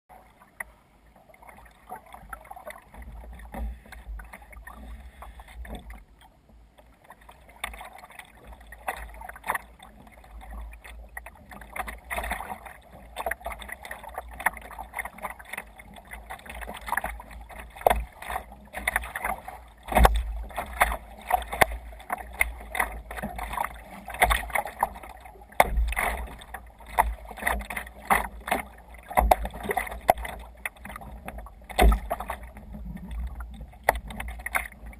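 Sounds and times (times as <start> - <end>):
water splashing against kayak hull: 0.1 - 34.9.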